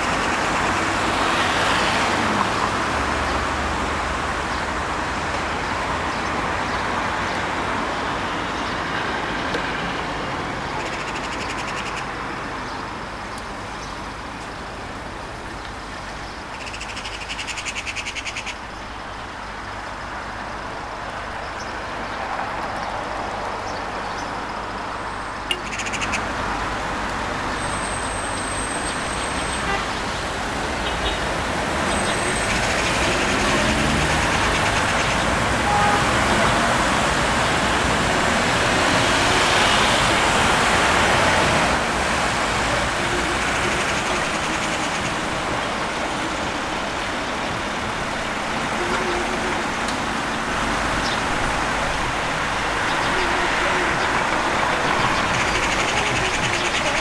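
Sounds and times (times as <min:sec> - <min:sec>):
city traffic hiss: 0:00.0 - 0:57.0.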